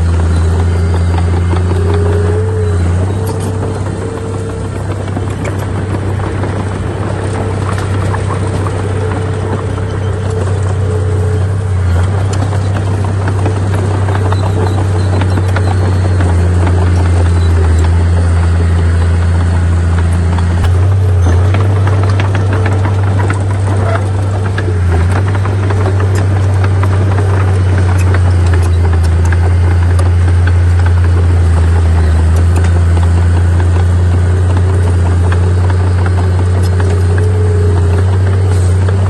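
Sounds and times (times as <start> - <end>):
clanks and rattles: 0.0 - 39.0
heavy machinery droning: 0.0 - 39.0.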